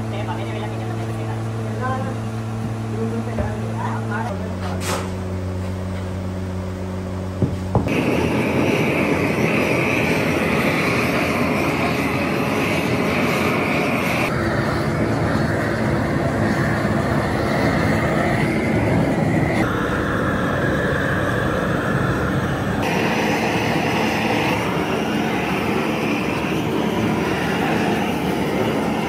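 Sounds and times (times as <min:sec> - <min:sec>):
foundry workshop roar: 0:00.0 - 0:29.0.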